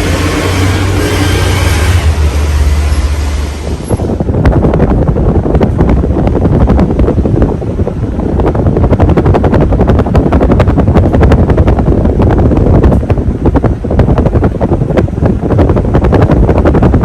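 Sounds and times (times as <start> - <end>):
ceiling fan airflow chopping: 0.0 - 17.0.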